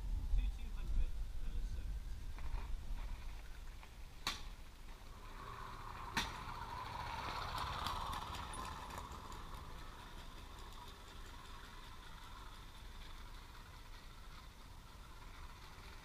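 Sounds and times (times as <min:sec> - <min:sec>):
moped engine passing: 0:02.1 - 0:16.0.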